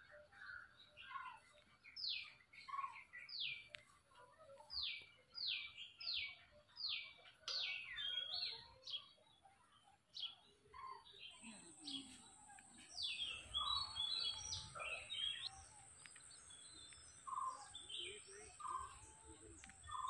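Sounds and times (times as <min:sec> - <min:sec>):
faint chirps of other birds: 0:00.0 - 0:20.0.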